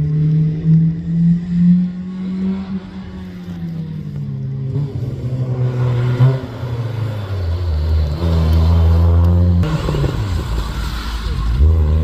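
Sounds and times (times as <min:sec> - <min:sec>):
rally car engine: 0:00.0 - 0:12.0.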